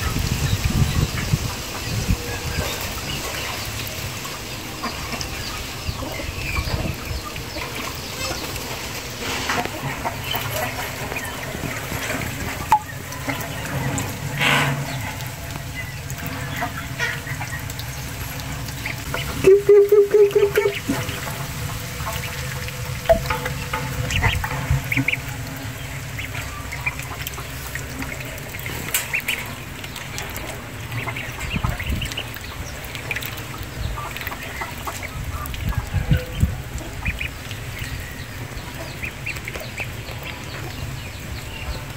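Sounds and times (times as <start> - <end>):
ducklings peeping: 0.0 - 41.9.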